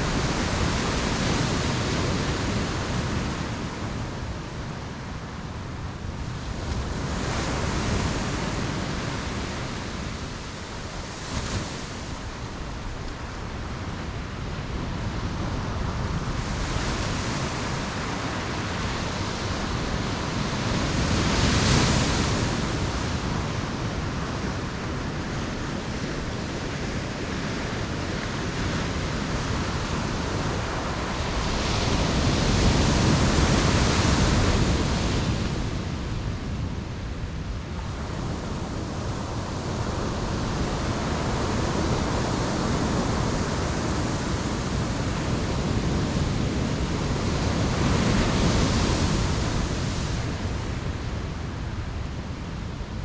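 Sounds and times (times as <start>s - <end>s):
ocean waves breaking on beach: 0.0s - 53.0s
wind: 0.0s - 53.0s.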